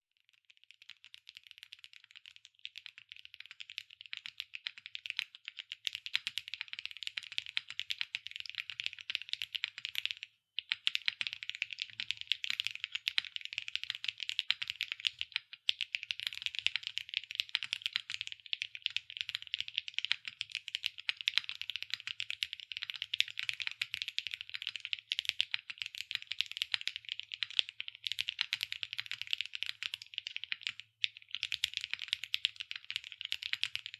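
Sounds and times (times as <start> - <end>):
mechanical keyboard typing: 1.0 - 33.9.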